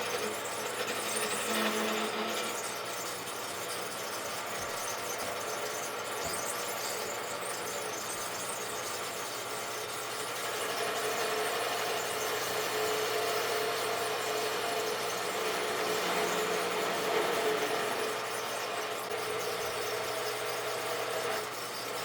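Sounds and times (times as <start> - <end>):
turning tool scraping wood: 0.0 - 22.0
wood lathe motor humming: 0.0 - 22.0.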